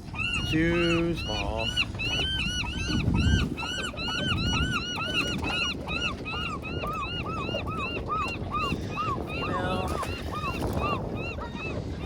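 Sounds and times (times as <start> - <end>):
flock of birds calling: 0.0 - 12.0.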